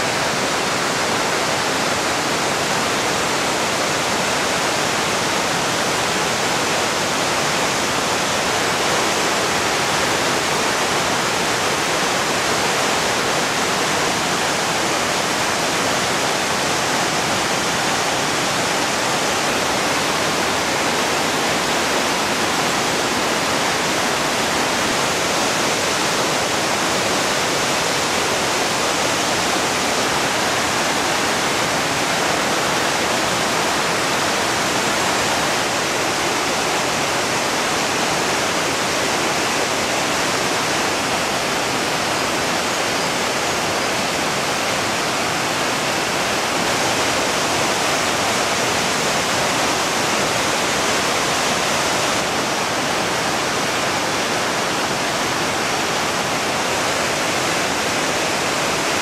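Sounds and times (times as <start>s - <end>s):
waterfall rushing over rocks: 0.0s - 59.0s.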